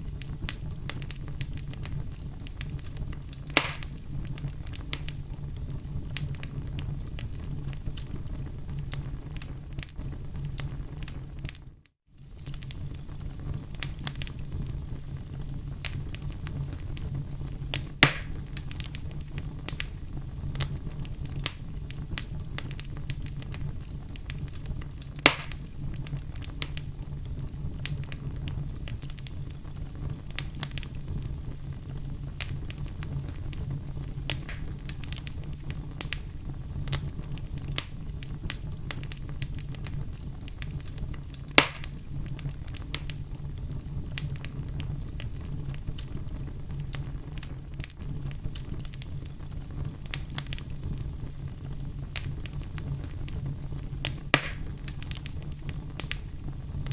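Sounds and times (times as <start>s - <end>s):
fire crackling: 0.0s - 56.9s
fire flames rumbling: 0.0s - 56.9s
fire pops: 0.0s - 56.9s.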